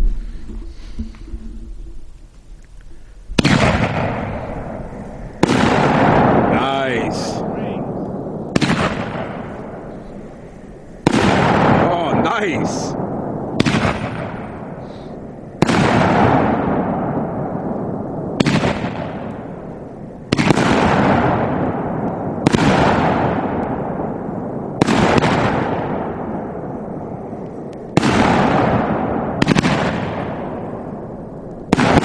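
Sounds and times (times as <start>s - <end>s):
firework shells booming: 0.0s - 32.0s.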